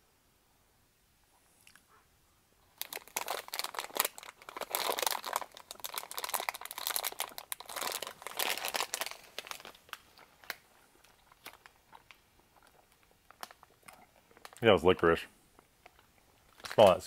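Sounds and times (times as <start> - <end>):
plastic sweets bag crinkling: 2.7 - 15.0, 15.6 - 17.0.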